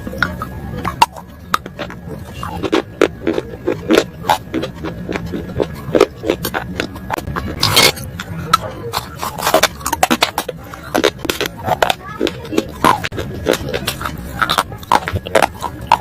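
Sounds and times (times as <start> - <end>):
chewing crunchy food: 0.0 - 16.0
steady low hum: 0.0 - 16.0.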